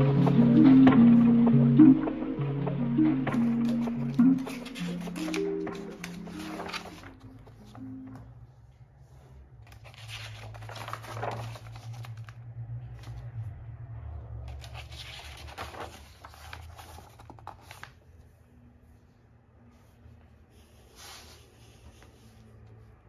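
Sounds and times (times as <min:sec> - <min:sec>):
sketchbook pages turning: 0:03.2 - 0:13.6, 0:14.4 - 0:23.0.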